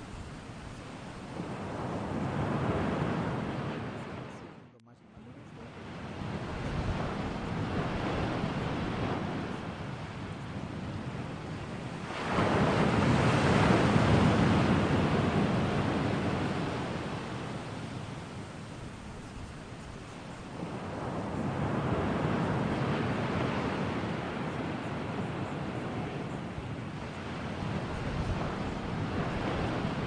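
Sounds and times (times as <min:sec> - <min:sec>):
ocean waves breaking: 0:00.0 - 0:04.6, 0:05.2 - 0:30.0.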